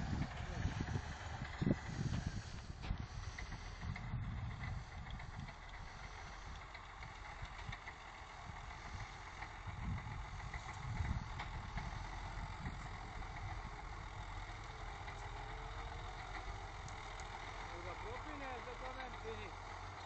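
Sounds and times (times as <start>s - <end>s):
tractor engine rumbling under load: 0.0s - 20.0s.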